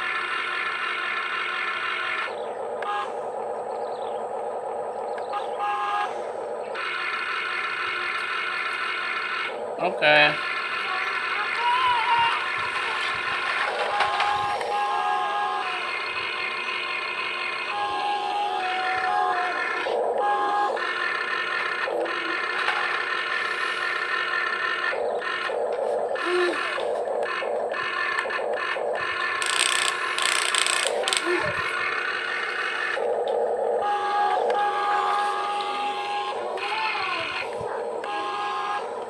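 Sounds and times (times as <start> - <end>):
electric gear motors whining: 0.0 - 39.0.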